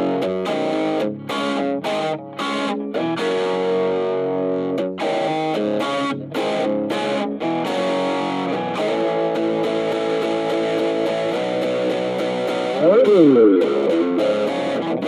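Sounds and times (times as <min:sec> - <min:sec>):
overdriven electric guitar chords: 0:00.0 - 0:15.0.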